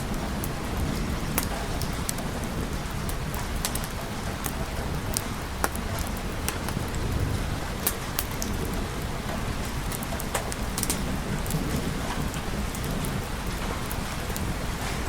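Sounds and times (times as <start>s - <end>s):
sharp crackles and ticks: 0.0s - 15.0s
steady rain: 0.0s - 15.0s.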